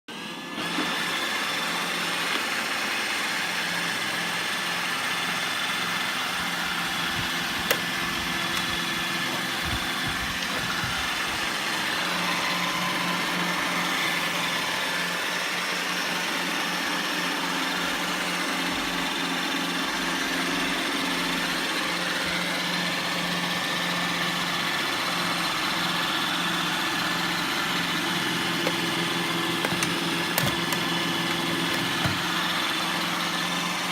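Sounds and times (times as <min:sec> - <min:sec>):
robot vacuum motors whirring: 0:00.4 - 0:33.9.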